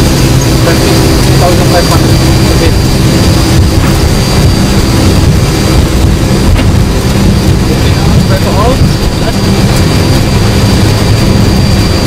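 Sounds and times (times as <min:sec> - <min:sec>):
high engine whine: 0:00.0 - 0:12.0
jet engines rumbling: 0:00.0 - 0:12.0.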